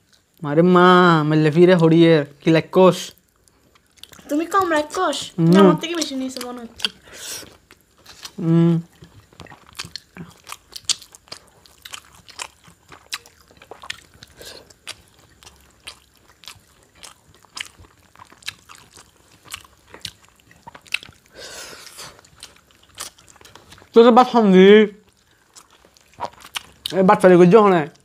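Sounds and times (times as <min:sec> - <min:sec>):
people chewing: 0:03.1 - 0:27.3.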